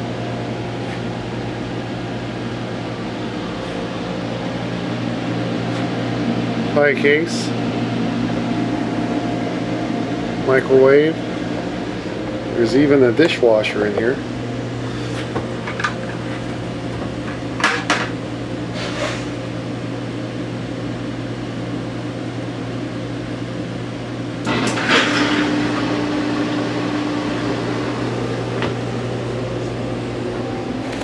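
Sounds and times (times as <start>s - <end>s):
loud whirring with steady tone: 0.0s - 31.0s
low machinery hum: 0.0s - 31.0s.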